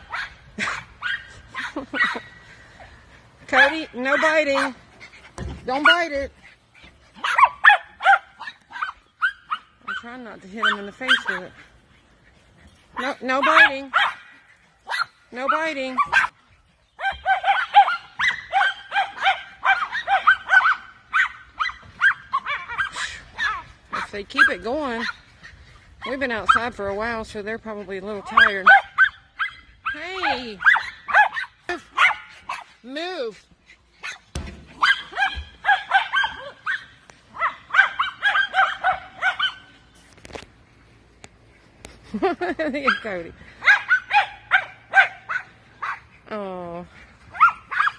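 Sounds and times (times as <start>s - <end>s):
small dogs yapping: 0.0s - 2.4s, 3.6s - 26.6s, 28.3s - 32.8s, 33.9s - 40.0s, 42.8s - 46.2s, 47.3s - 47.9s.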